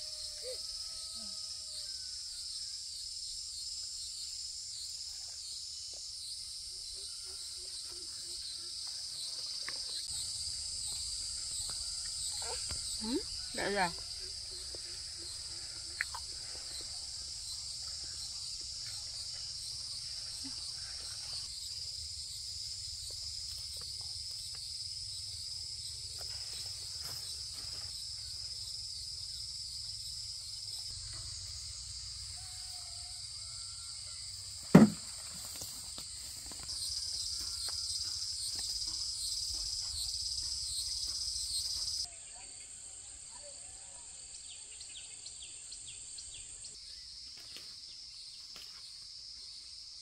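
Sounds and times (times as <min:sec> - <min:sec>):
insect chorus: 0:00.0 - 0:50.0.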